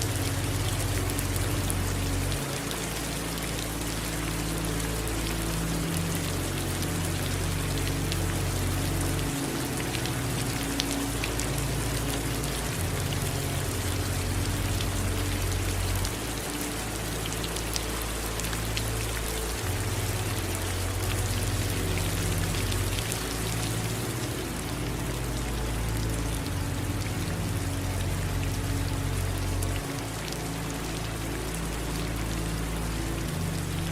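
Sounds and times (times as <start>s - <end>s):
low soft background music: 0.0s - 33.9s
steady rain: 0.0s - 33.9s.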